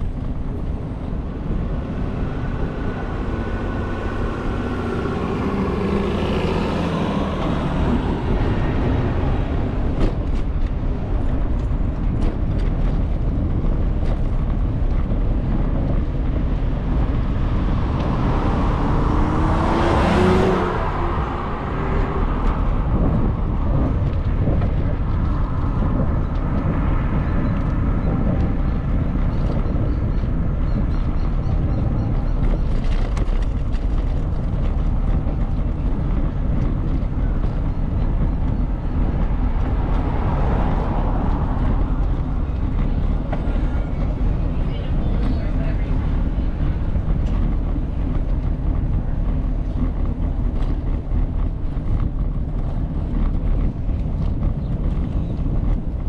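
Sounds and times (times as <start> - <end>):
motor vehicle passing: 0.0 - 56.0
street traffic: 0.0 - 56.0
wind rumble on microphone: 0.0 - 56.0.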